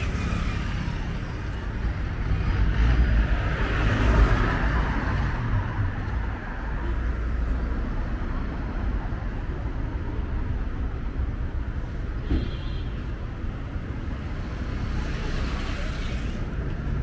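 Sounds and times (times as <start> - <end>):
tyres on the road: 0.0 - 17.0.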